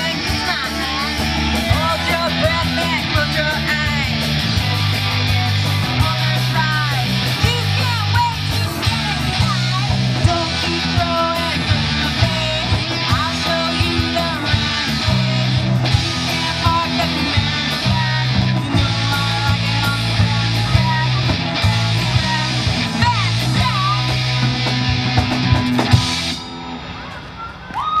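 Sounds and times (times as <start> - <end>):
rock music: 0.0 - 27.6.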